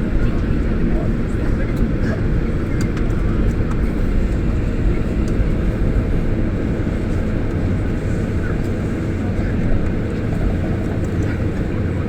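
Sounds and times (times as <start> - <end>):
airplane cabin low rumble: 0.0 - 12.0.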